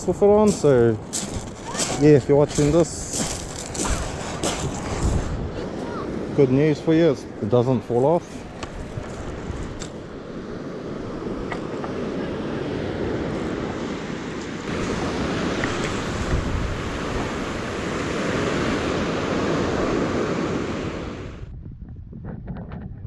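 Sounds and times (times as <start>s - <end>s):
surf breaking on shingle beach: 0.0s - 21.4s.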